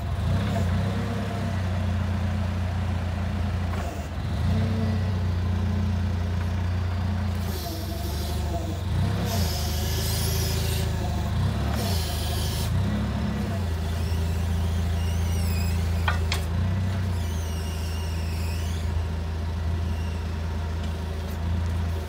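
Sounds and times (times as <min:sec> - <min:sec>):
truck engine humming: 0:00.0 - 0:22.0.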